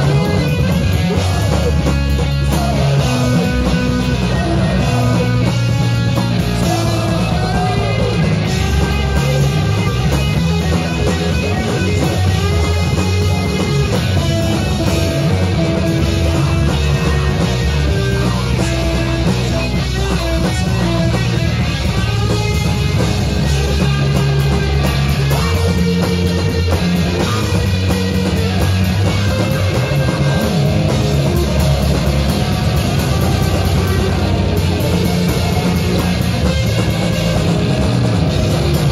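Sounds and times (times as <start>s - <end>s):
bass guitar: 0.0s - 38.9s
distorted electric guitars: 0.0s - 38.9s
fast drum kit: 0.0s - 38.9s.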